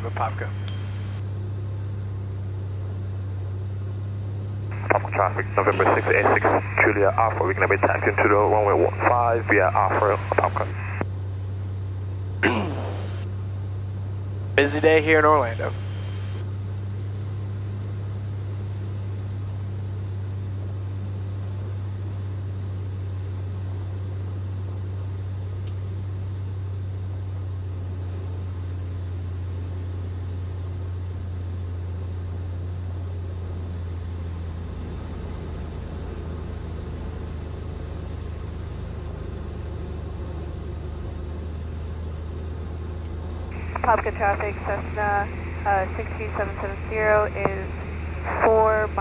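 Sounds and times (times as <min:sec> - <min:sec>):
airplane engine and propeller drone: 0:00.0 - 0:49.0.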